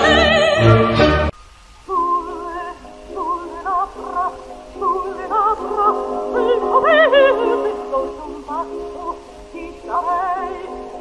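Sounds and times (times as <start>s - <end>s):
woman singing opera: 0.0s - 1.2s, 1.8s - 11.0s
recording hiss: 0.0s - 11.0s.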